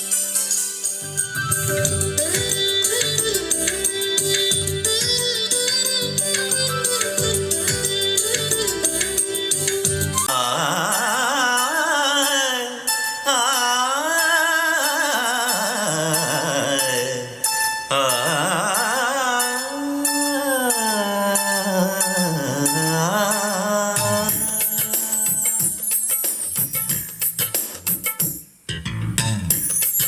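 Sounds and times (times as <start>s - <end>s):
film song melody from speaker: 0.0s - 26.5s.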